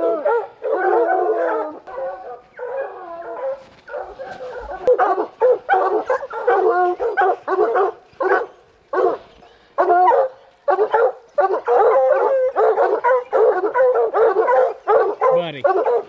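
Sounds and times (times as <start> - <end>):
dogs barking over one another: 0.0 - 16.0
hounds baying: 0.0 - 16.0.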